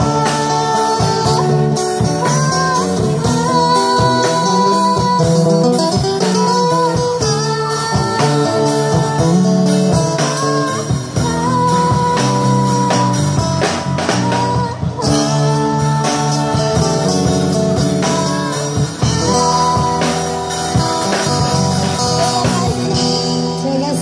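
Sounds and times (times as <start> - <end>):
drum kit: 0.0 - 24.0
electric guitar: 0.0 - 24.0.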